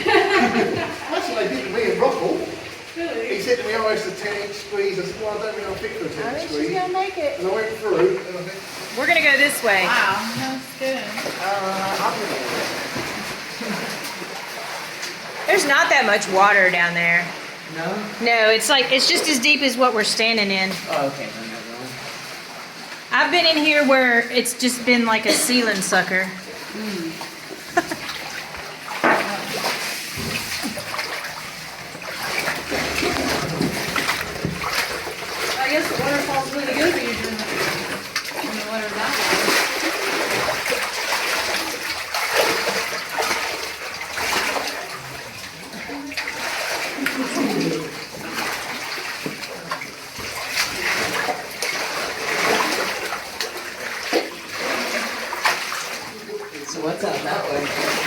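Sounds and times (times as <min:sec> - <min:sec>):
people wading through water: 0:00.0 - 0:58.0.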